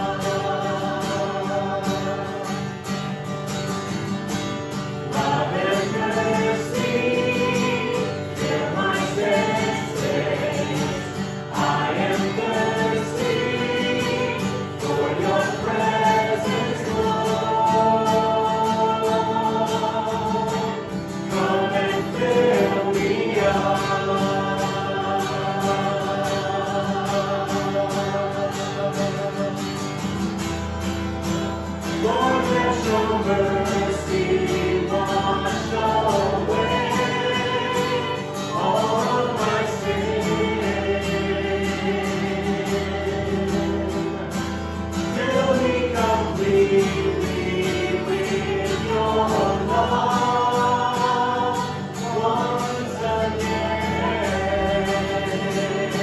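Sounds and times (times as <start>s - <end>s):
group of voices singing: 0.0s - 56.0s.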